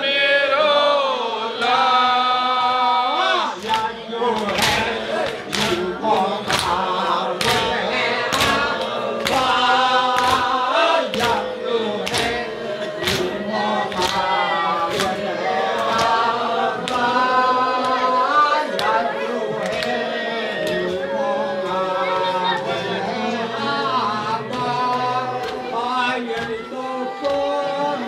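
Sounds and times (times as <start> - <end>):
men singing a chant: 0.0 - 28.0
rhythmic hand-clapping: 0.0 - 28.0.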